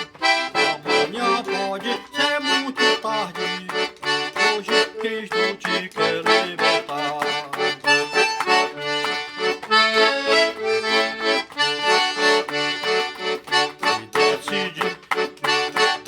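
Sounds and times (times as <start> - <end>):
accordion playing hymn tune: 0.0 - 16.0.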